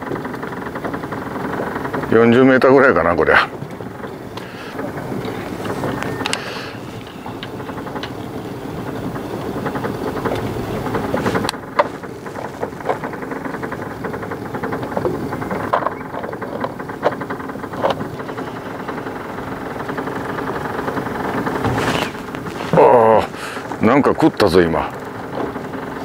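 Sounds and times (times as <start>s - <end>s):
outboard motor idling: 0.0s - 26.0s.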